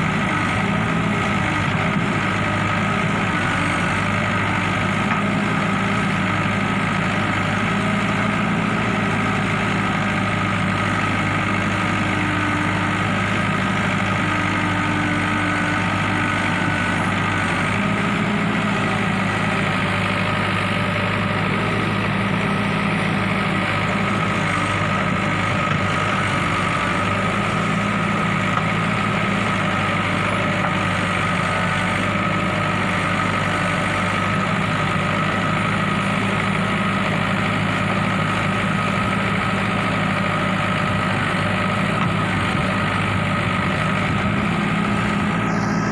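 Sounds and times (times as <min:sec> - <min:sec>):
backhoe diesel engine running: 0:00.0 - 0:45.9.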